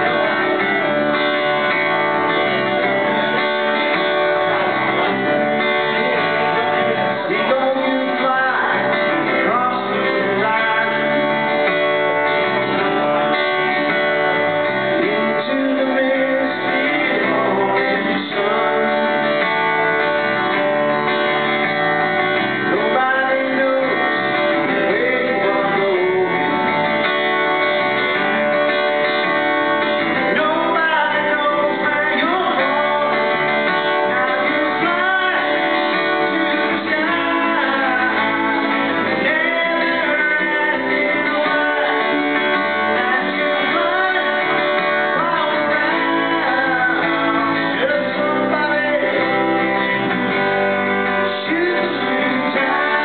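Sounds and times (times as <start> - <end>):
live band music: 0.0 - 53.0.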